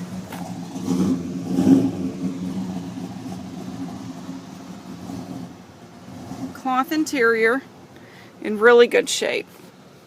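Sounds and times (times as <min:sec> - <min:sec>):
engine idling: 0:00.0 - 0:08.7.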